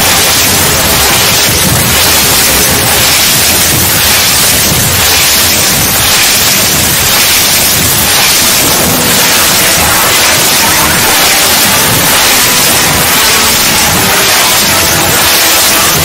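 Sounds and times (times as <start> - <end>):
harsh static-like hiss: 0.0 - 16.0.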